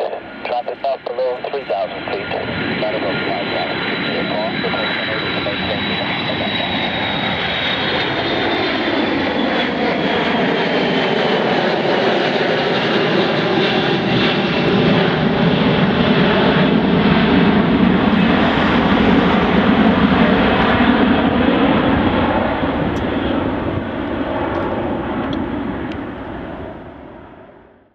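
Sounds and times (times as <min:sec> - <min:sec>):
aircraft engines running: 0:00.0 - 0:27.9.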